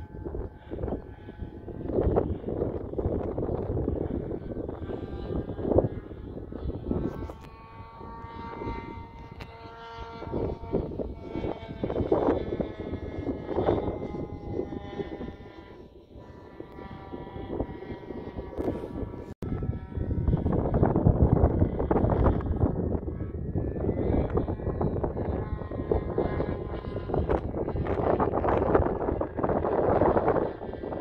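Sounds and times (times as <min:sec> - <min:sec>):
model airplane engine buzzing: 0:00.0 - 0:31.0
wind rumble on microphone: 0:00.0 - 0:31.0.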